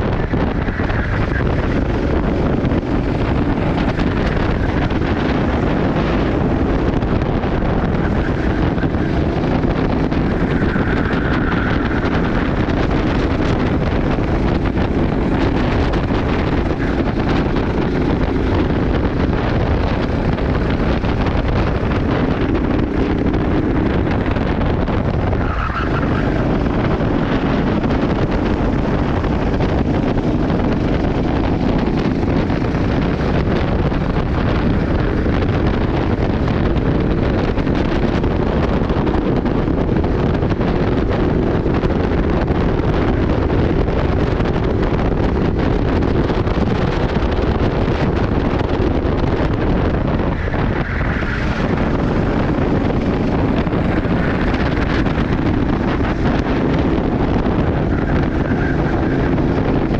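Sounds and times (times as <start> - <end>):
go-kart engine running: 0.0 - 59.9
wind noise on microphone: 0.0 - 59.9.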